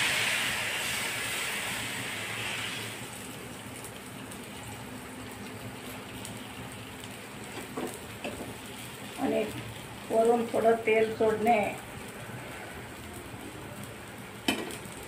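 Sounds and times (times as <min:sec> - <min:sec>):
dough sizzling on a hot pan: 0:00.0 - 0:15.0.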